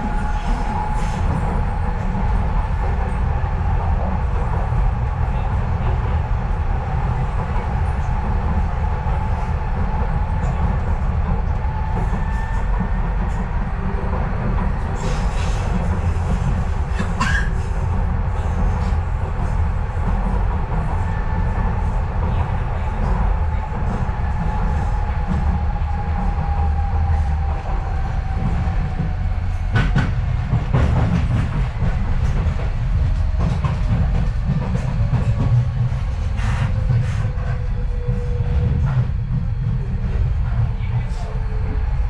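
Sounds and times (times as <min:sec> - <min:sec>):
train wheels rumbling: 0:00.0 - 0:42.0.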